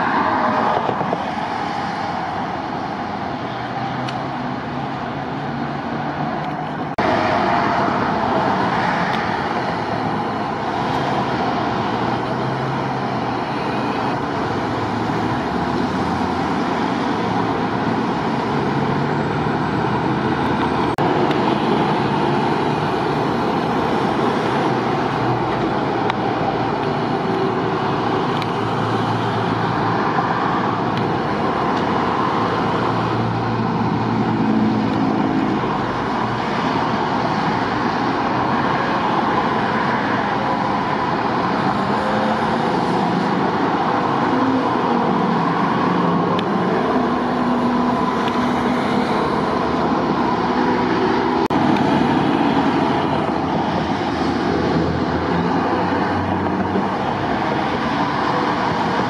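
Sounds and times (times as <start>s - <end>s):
highway traffic passing: 0.0s - 59.0s
low hum of heavy vehicles: 0.0s - 59.0s.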